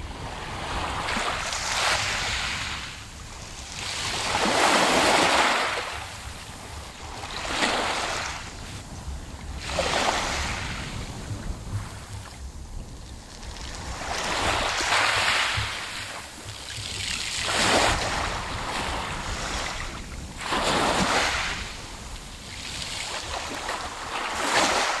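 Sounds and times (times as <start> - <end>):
waves lapping on pebble beach: 0.0 - 8.9, 9.6 - 12.3, 13.1 - 25.0.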